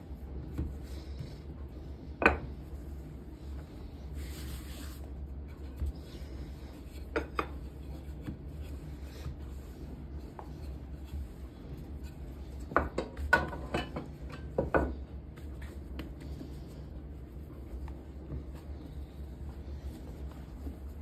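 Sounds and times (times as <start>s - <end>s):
rolling pin rubbing dough: 0.0s - 21.0s.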